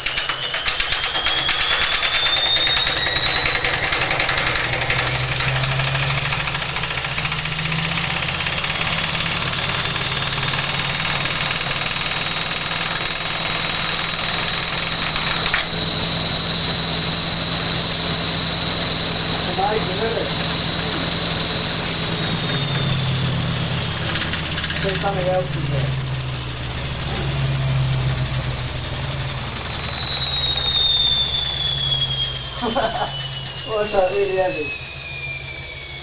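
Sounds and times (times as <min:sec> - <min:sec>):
washing machine motor whine: 0:00.0 - 0:36.0.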